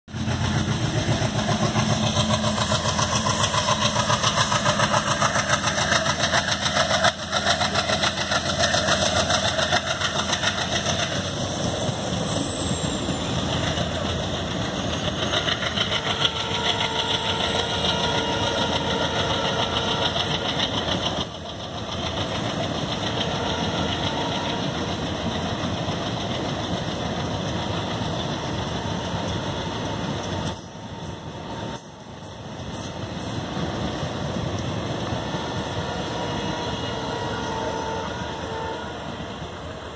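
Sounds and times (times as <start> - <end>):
locomotive engine throbbing: 0.1 - 39.9
train coaches rolling by: 0.1 - 39.9.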